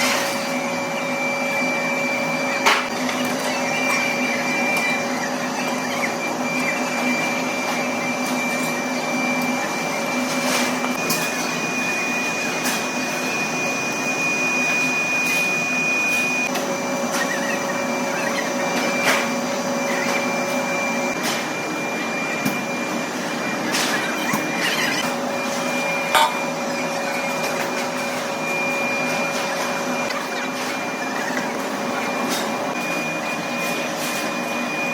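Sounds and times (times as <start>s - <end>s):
metalworking machine humming: 0.0s - 34.9s.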